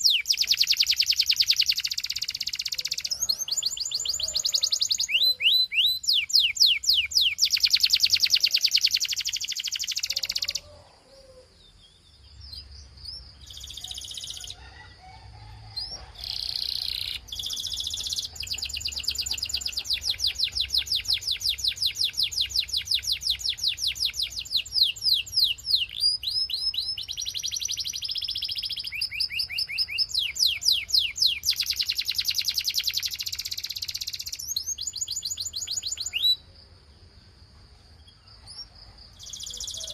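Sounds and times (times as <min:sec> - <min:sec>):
canary singing trills: 0:00.0 - 0:15.0, 0:15.7 - 0:36.6, 0:37.9 - 0:39.9.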